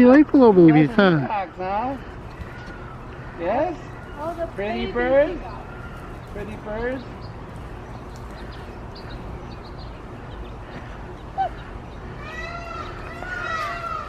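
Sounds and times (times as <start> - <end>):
peahen calling: 0.0 - 14.0
small birds chirping: 0.0 - 14.0.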